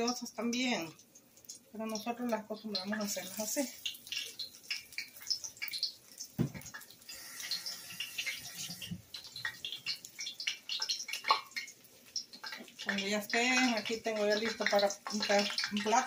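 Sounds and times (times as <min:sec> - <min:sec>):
fish cakes sizzling in oil: 0:00.0 - 0:16.0.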